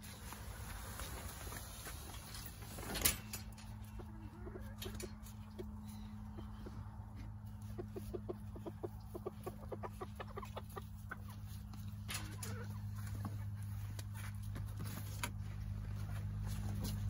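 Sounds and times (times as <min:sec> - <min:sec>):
steady low hum: 0:00.0 - 0:17.0
hens clucking: 0:00.2 - 0:17.0.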